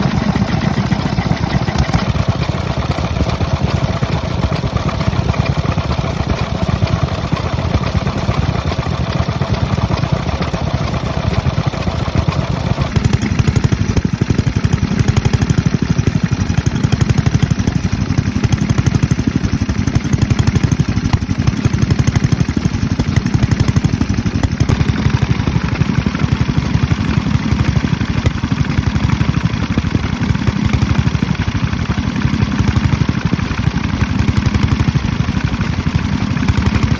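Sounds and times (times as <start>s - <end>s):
stationary engine running: 0.0s - 36.9s.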